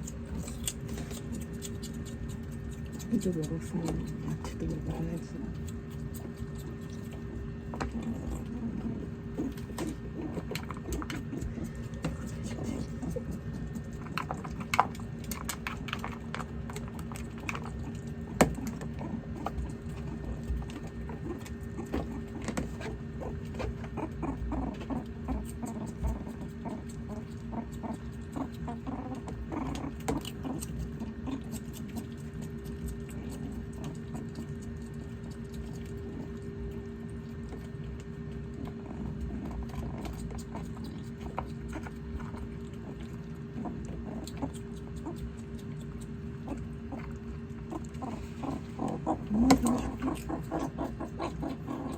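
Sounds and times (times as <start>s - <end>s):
meerkats crunching vegetables: 0.0s - 51.9s.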